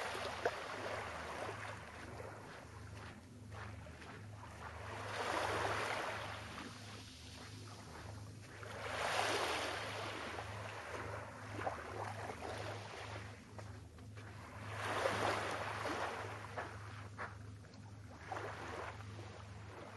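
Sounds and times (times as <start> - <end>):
small waves breaking on sand: 0.0 - 17.4, 18.0 - 19.9.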